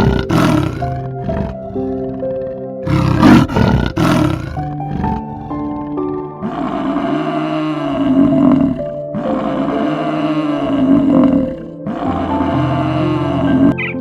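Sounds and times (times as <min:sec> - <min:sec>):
background music: 0:00.0 - 0:14.0
big cat roaring: 0:00.0 - 0:14.0.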